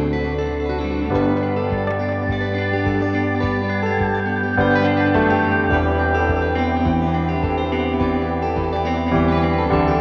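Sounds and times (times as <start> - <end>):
ambient music of layered tones: 0.0 - 10.0.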